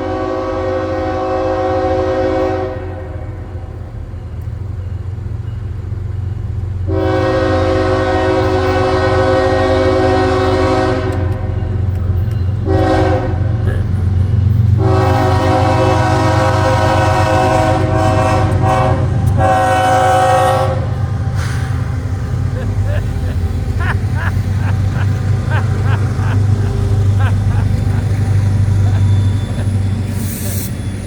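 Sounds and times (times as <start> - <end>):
locomotive air horn blasts: 0.0 - 3.3, 6.9 - 11.5, 12.6 - 13.6, 14.8 - 30.7
freight train rumble: 0.0 - 31.0.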